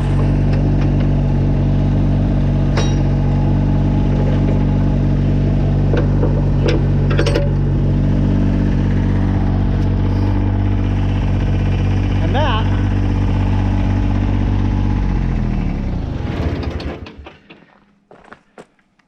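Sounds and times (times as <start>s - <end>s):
tractor diesel engine idling: 0.0s - 17.6s.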